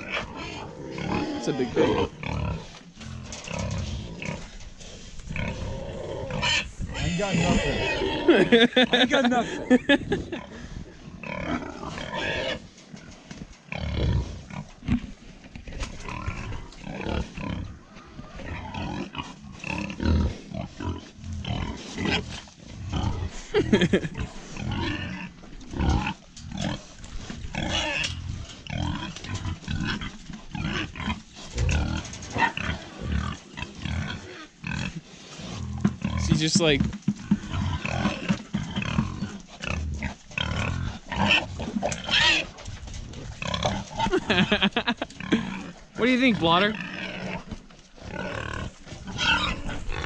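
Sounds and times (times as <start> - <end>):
pigs grunting: 0.0 - 50.0.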